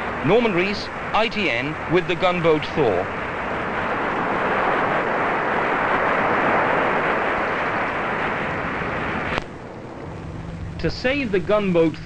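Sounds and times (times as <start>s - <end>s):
wind and rough sea rushing: 0.0s - 12.0s.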